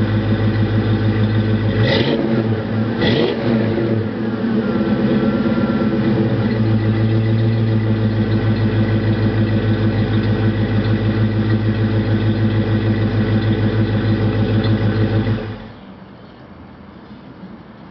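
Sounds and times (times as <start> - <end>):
engine idling with rhythmic burble: 0.0 - 17.9.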